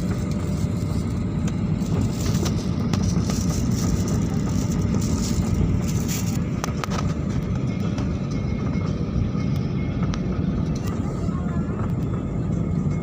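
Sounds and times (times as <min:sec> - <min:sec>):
airliner cabin rumble and hiss: 0:00.0 - 0:13.0.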